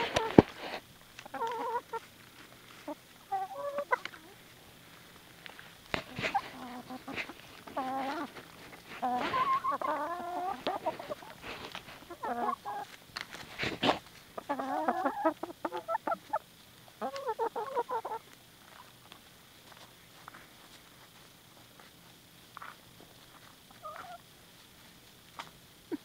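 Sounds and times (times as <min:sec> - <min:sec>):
hens clucking: 0:00.0 - 0:19.2, 0:22.6 - 0:24.8.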